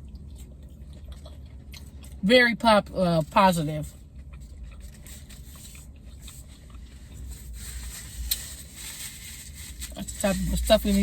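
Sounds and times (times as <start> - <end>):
faint chewing: 0.0 - 2.2, 3.2 - 10.7
low car interior hum: 0.0 - 11.0.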